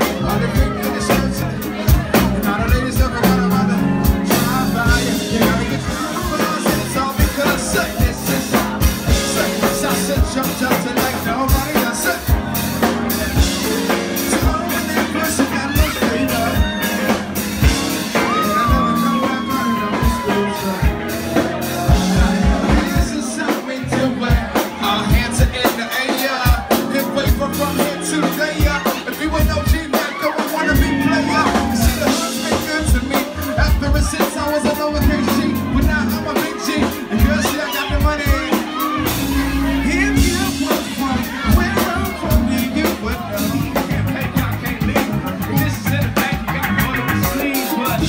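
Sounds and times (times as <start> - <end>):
drum kit beat: 0.0 - 48.0
electric guitars: 0.0 - 48.0
man singing: 0.0 - 48.0.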